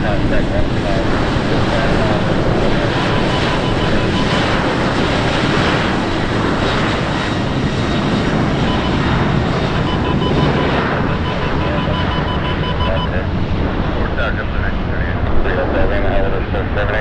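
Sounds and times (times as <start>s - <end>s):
aircraft engines roaring: 0.0s - 17.0s.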